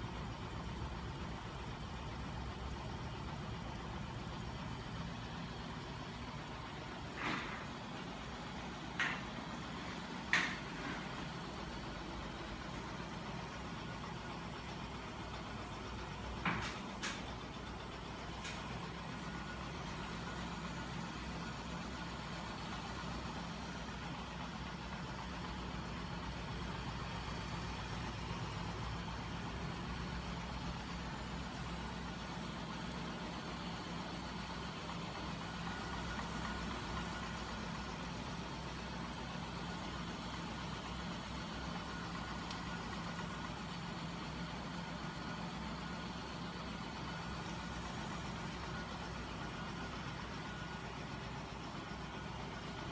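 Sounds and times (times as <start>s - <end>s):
machine mechanical hum and whir: 0.0s - 52.9s.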